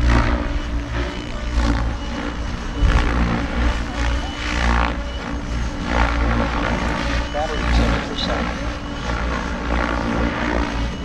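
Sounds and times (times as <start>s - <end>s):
model helicopter rotor drone: 0.0s - 11.0s.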